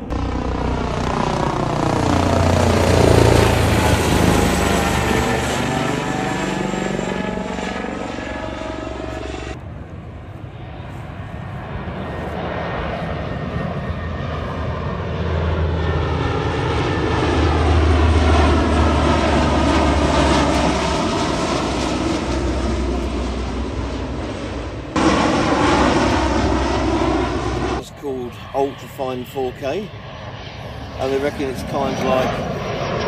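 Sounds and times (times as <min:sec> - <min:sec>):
propeller aircraft drone: 0:00.0 - 0:33.0.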